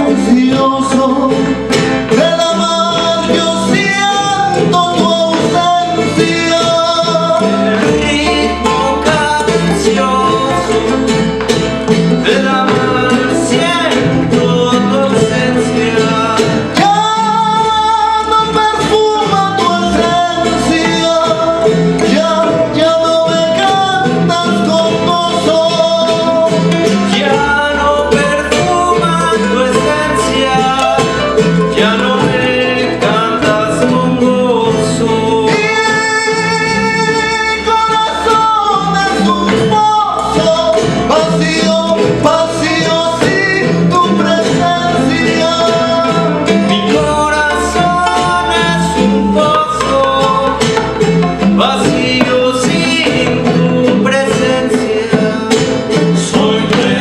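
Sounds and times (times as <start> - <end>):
person singing: 0.0 - 57.0
plucked guitar: 0.0 - 57.0
steady bass: 0.0 - 57.0
strummed guitars: 0.0 - 57.0.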